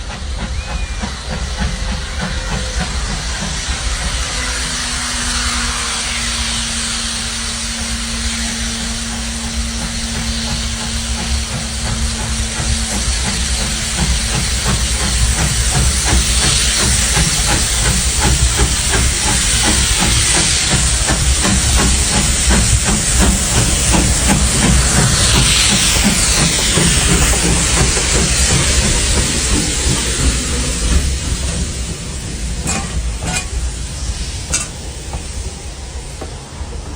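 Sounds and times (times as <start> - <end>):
locomotive exhaust beats: 0.0 - 36.9
steam locomotive hissing: 0.0 - 36.9.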